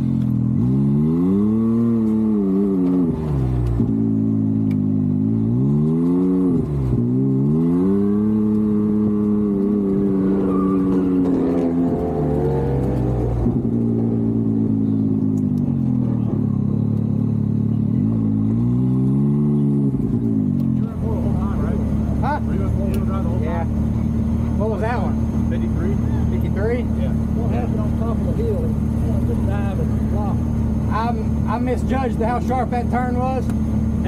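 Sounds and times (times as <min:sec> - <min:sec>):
engine revving at full effort: 0:00.0 - 0:34.0.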